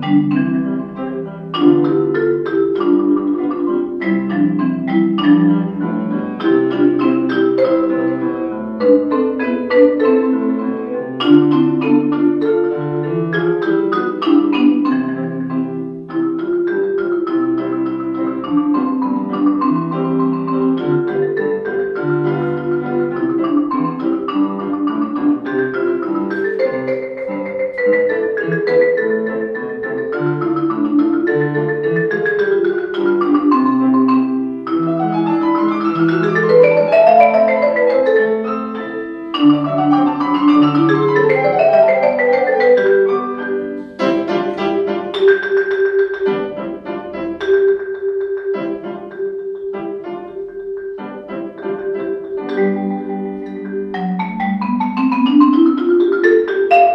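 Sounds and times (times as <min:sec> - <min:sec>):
grand piano accompanying: 0:00.0 - 0:56.9
marimba runs: 0:00.0 - 0:56.9.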